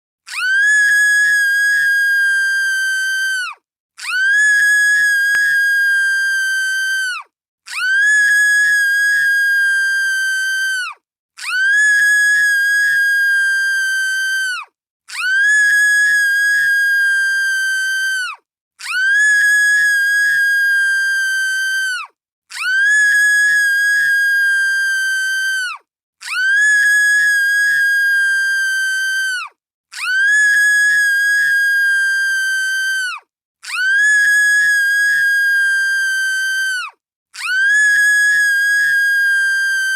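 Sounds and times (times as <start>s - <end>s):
girl screaming shrilly: 0.3s - 39.9s.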